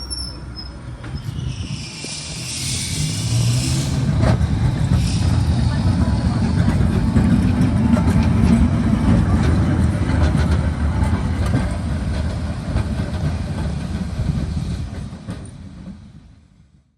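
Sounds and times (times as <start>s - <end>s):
tram wheels rumbling on rail: 0.0s - 16.9s.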